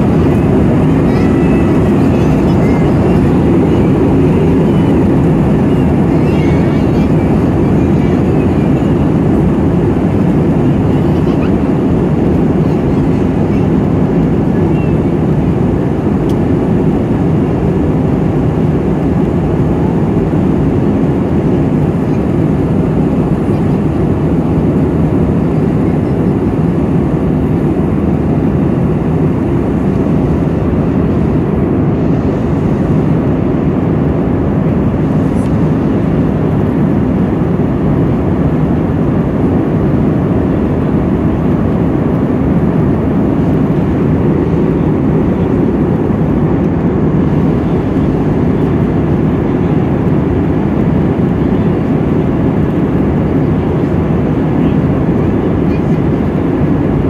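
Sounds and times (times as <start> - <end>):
airliner cabin engine noise: 0.0 - 57.0.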